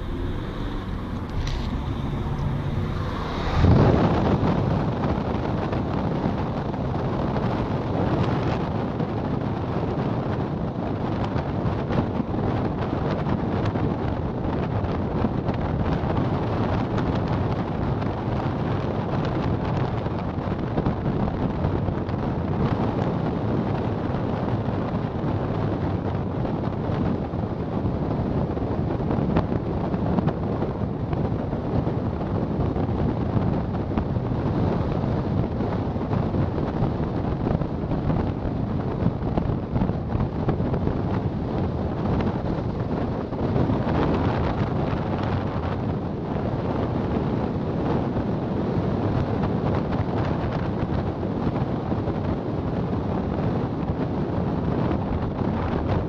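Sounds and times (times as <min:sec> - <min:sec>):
car road noise: 0:00.0 - 0:56.0
wind rushing over microphone: 0:00.0 - 0:56.0.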